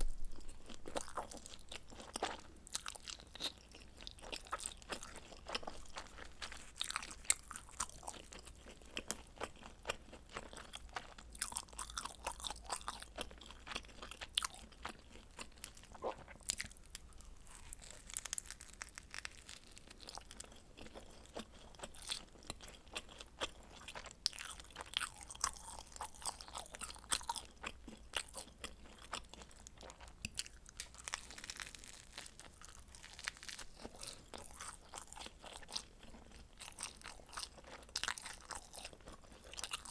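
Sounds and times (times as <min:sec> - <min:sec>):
chewing crunchy pizza: 0:00.0 - 0:39.9.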